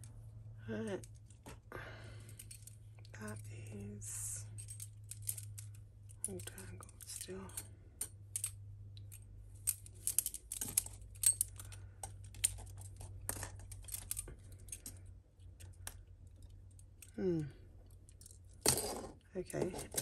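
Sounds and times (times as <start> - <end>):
metal jewellery clinking: 2.2 - 17.2, 17.8 - 20.0.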